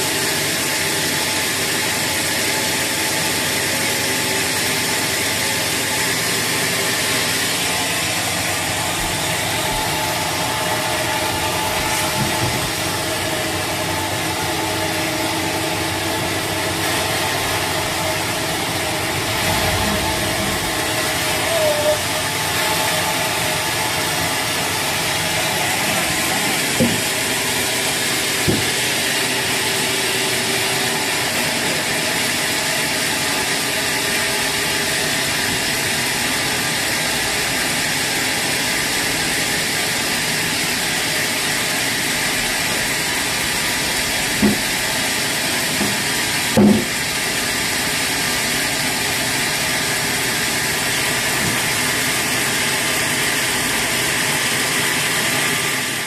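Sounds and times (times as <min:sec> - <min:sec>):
sawmill machinery hiss: 0:04.2 - 0:56.0.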